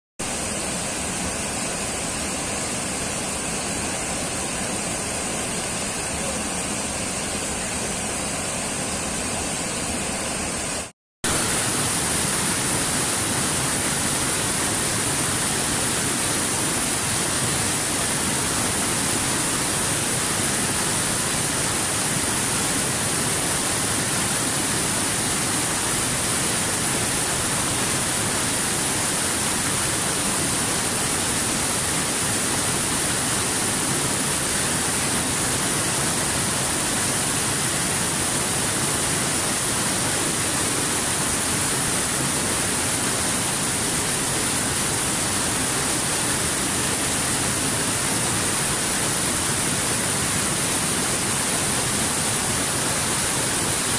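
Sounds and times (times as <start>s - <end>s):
waterfall rushing over boulders: 0.2s - 53.9s.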